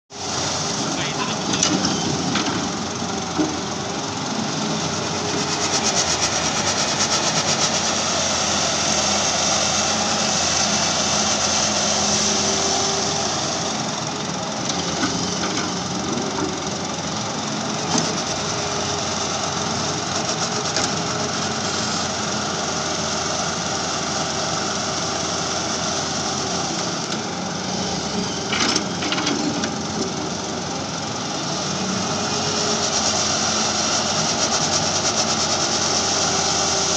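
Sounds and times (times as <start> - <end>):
excavator diesel engine under load: 0.1 - 36.9.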